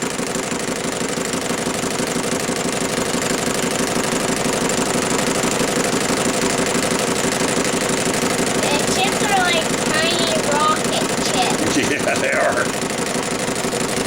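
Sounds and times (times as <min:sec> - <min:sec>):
cutting tool chatter: 0:02.6 - 0:14.0.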